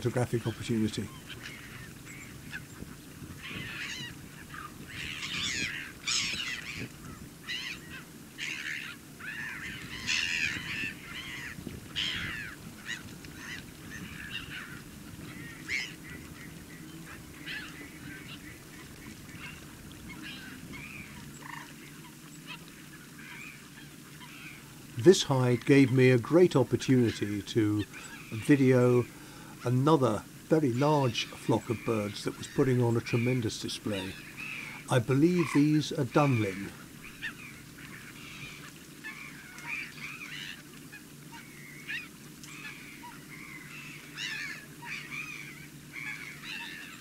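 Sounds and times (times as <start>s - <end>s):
wetland birds calling: 0.0s - 47.0s.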